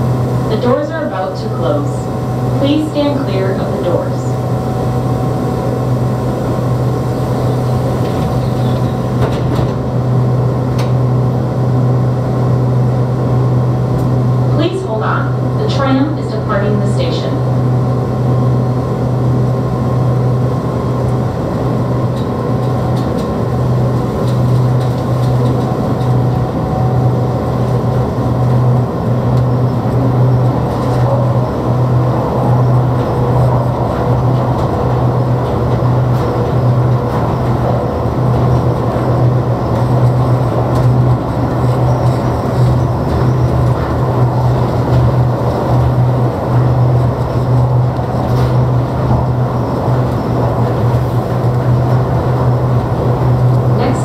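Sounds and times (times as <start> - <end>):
tram low hum: 0.0 - 54.0
tram rushing running noise: 0.0 - 54.0.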